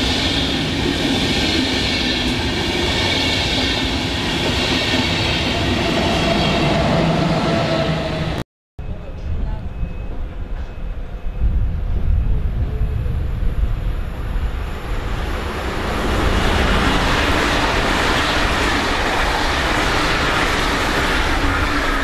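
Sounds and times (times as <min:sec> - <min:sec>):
train rushing along track: 0:00.0 - 0:22.0.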